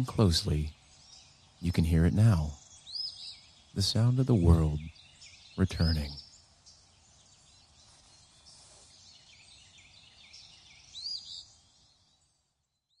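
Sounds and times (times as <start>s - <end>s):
faint outdoor hiss: 0.0s - 13.0s
songbirds chirping and singing: 0.0s - 13.0s.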